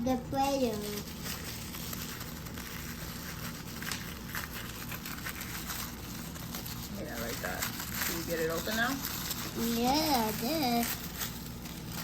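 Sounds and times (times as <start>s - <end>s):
packaging crinkling and rustling: 0.4s - 12.0s.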